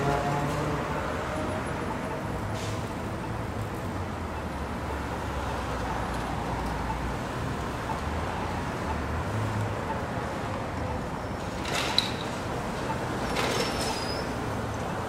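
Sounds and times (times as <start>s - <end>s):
cars driving past: 0.0s - 15.0s.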